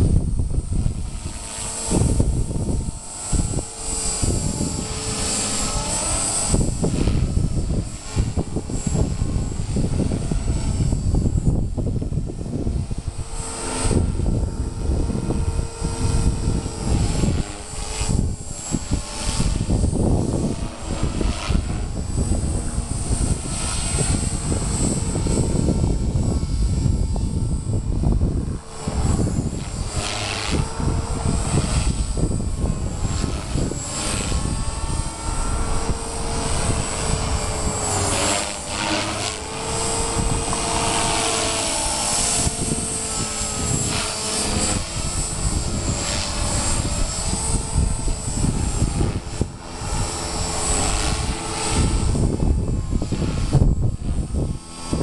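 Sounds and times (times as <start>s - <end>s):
rc helicopter rotor whine: 0.0s - 55.0s
wind buffeting microphone: 0.0s - 55.0s.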